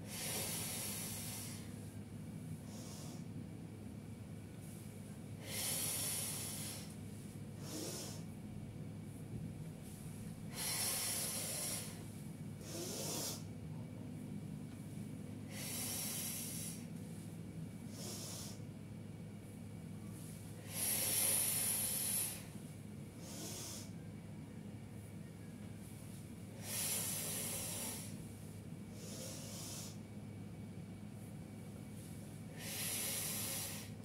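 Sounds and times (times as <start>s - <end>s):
woman breathing heavily: 0.0s - 3.6s, 4.6s - 24.2s, 25.7s - 30.4s, 31.1s - 34.0s.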